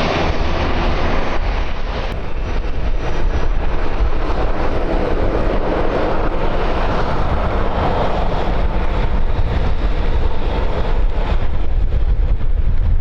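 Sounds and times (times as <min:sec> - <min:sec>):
airliner jet noise: 0:00.0 - 0:13.0
wind buffeting microphone: 0:00.0 - 0:13.0.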